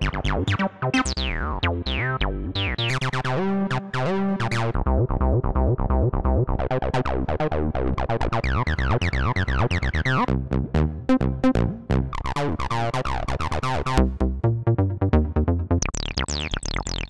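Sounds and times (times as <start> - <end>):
synth bass sequence with filter sweeps: 0.0 - 17.0.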